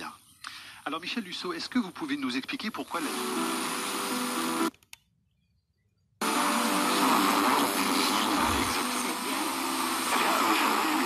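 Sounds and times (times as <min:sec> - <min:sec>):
radio static hiss: 0:00.0 - 0:04.7, 0:06.2 - 0:11.0.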